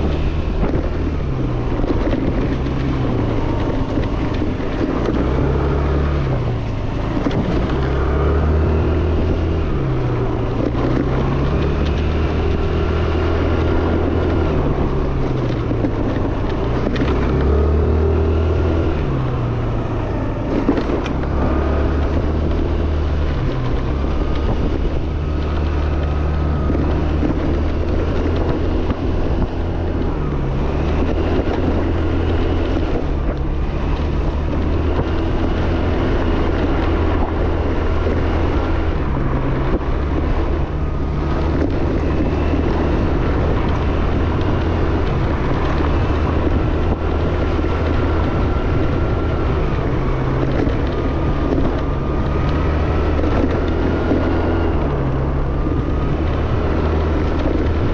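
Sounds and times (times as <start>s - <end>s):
scooter engine running: 0.0s - 57.9s
wind buffeting microphone: 0.0s - 57.9s.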